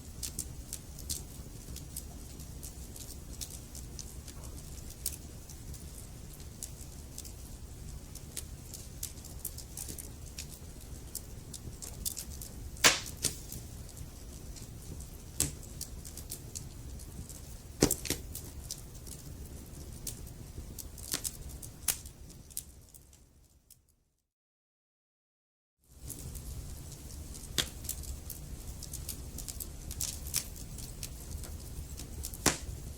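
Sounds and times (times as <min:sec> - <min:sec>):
fireplace fire rumbling: 0:00.0 - 0:23.3, 0:25.9 - 0:32.9
fire pops and snaps: 0:00.1 - 0:23.1, 0:26.0 - 0:32.9.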